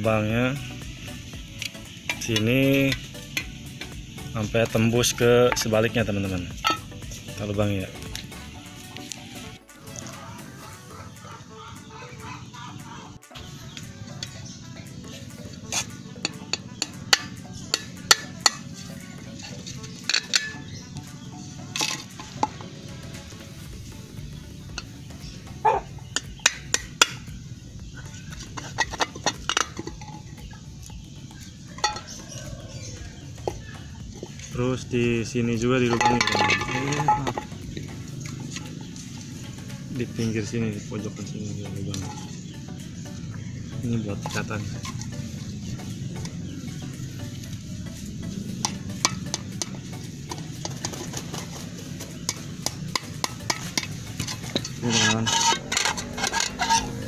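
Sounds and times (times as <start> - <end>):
fowl calling: 1.0 - 23.6, 24.8 - 30.6, 31.2 - 34.6, 41.9 - 57.0.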